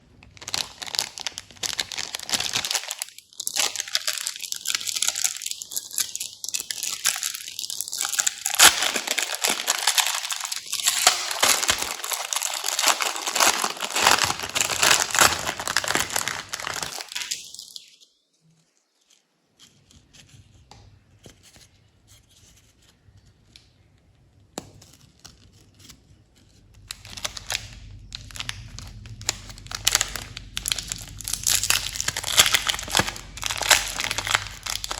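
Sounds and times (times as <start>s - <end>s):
plastic wrappers crinkling: 0.1s - 19.3s, 24.9s - 34.9s.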